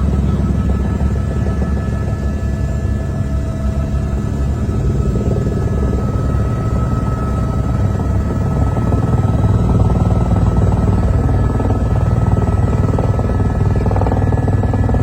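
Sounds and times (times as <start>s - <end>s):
faint steady whine: 0.0s - 15.0s
helicopter rotor drone: 0.0s - 15.0s.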